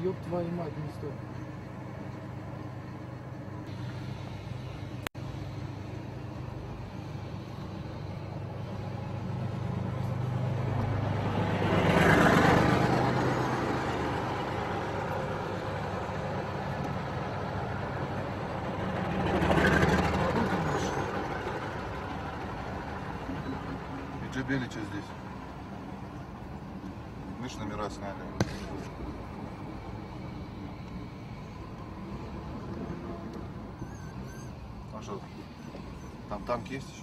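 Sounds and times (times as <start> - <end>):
car engine hum: 0.0 - 37.0
tracked armoured vehicles passing: 0.0 - 37.0.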